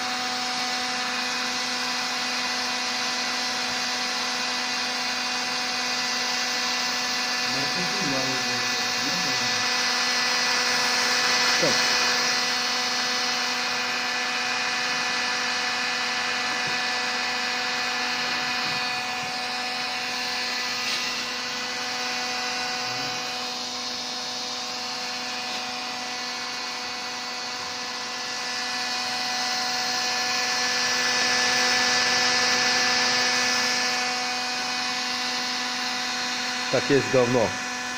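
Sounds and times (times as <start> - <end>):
hair dryer running: 0.0 - 37.9.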